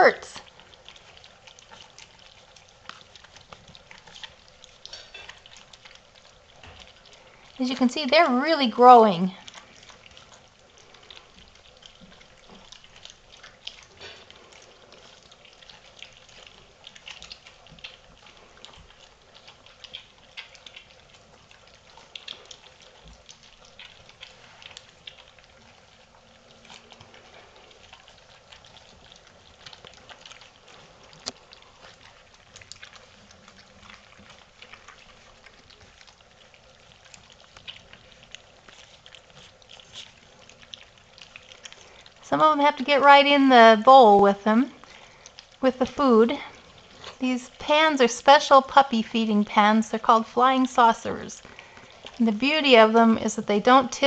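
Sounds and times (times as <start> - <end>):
puppies lapping and chewing: 0.0 - 54.0.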